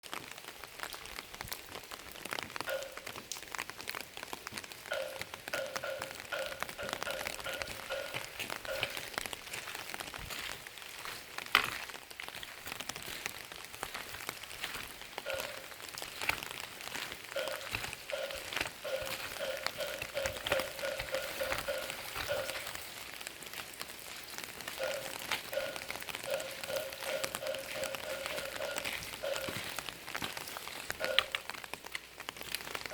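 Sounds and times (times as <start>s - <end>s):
rain pattering on surfaces: 0.0s - 32.9s.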